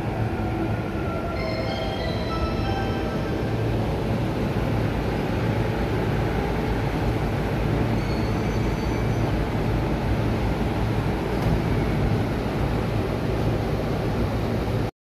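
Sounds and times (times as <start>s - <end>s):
electric train rumbling: 0.0s - 14.9s.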